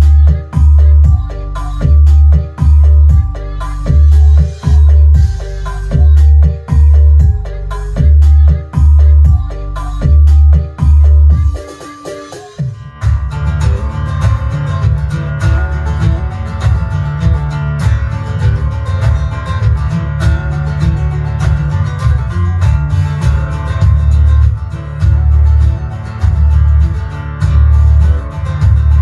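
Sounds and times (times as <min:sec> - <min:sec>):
song with heavy bass and guitar: 0:00.0 - 0:29.0.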